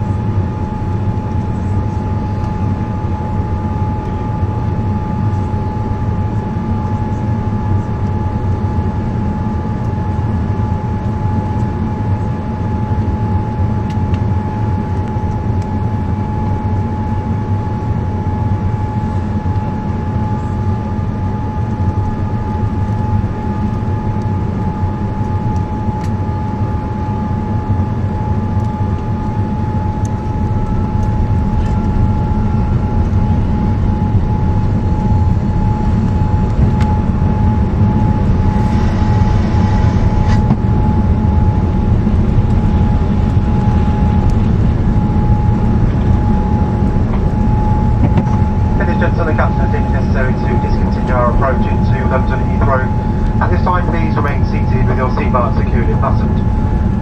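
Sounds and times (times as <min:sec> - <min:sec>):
jet engine rumble and whine: 0:00.0 - 0:57.0.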